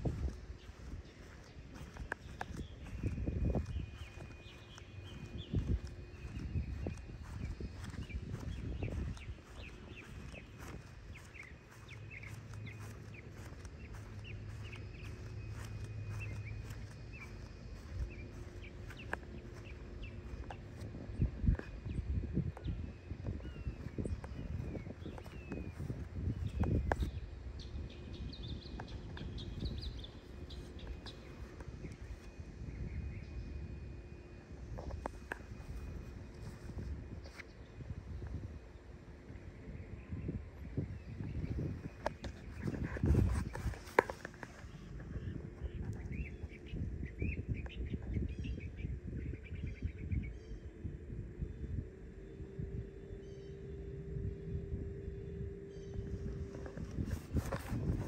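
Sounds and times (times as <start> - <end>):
small birds chirping: 0.0 - 33.6, 39.7 - 50.7, 55.2 - 58.0
faint steady hum: 0.0 - 58.0
wind rumble on microphone: 0.0 - 58.0.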